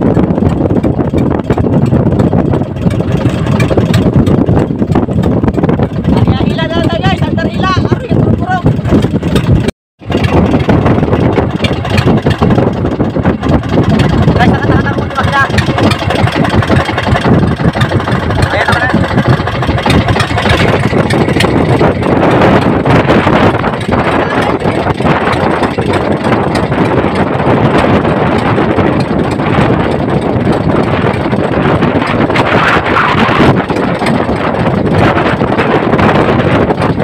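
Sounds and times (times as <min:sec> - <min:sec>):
rough sea rushing: 0:00.0 - 0:37.0
wind buffeting microphone: 0:00.0 - 0:37.0.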